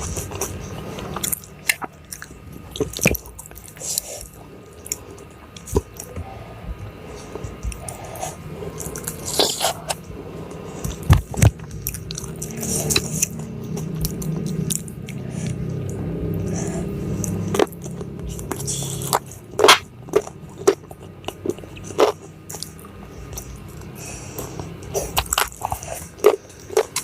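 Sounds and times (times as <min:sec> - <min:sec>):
biting and chewing food: 0:00.0 - 0:27.0
low steady hum: 0:00.0 - 0:27.0.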